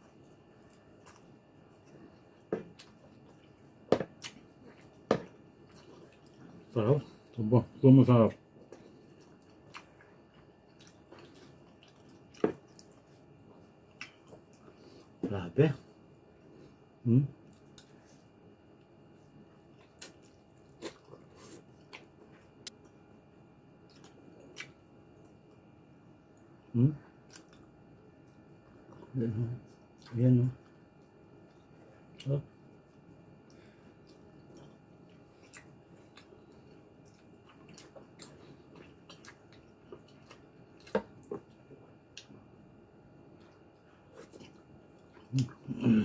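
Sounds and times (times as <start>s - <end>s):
person chewing meat: 0.0s - 7.4s, 8.4s - 15.2s, 16.3s - 25.6s, 26.3s - 45.8s.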